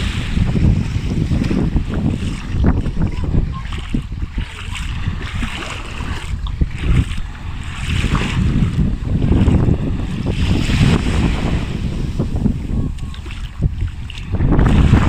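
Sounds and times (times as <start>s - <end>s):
sea waves washing onto beach: 0.0s - 15.0s
wind buffeting microphone: 0.0s - 15.0s.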